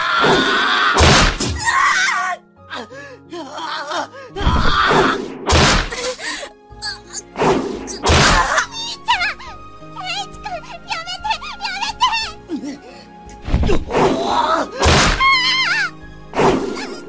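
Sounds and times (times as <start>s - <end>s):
tense background music: 0.0s - 17.0s.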